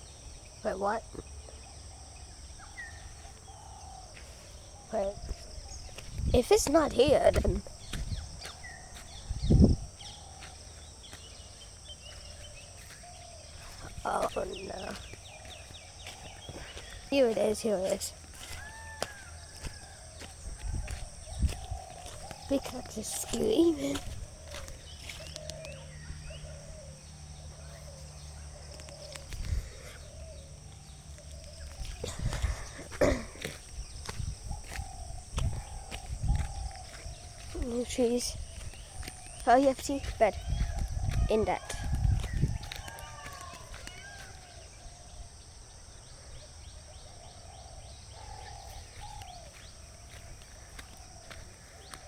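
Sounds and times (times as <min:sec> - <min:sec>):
small birds chirping: 0:00.0 - 0:52.0
peacock calling: 0:00.6 - 0:45.1.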